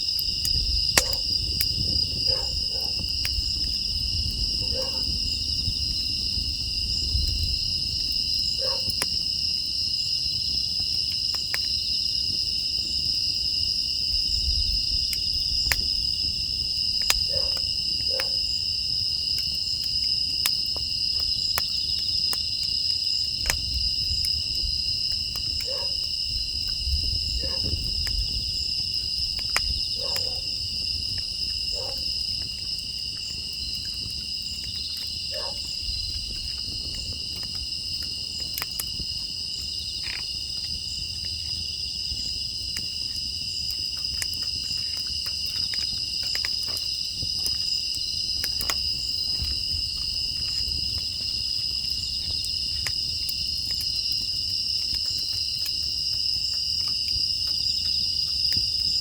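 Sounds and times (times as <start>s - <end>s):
crickets chirring: 0.0s - 59.0s
wood fire crackling and popping: 0.0s - 59.0s.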